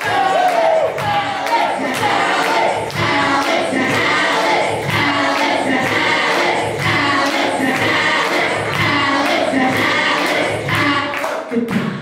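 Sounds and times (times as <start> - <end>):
crowd singing in chorus: 0.0 - 12.0
steady beat: 0.0 - 12.0.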